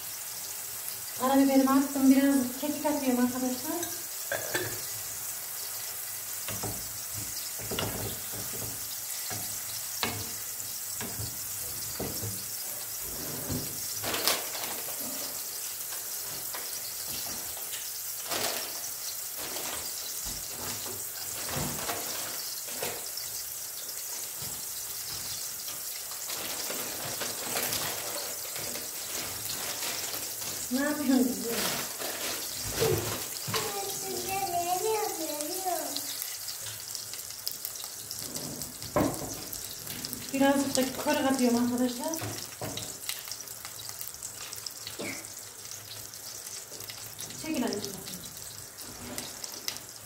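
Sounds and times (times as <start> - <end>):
sauce sizzling in a pan: 0.0 - 50.0.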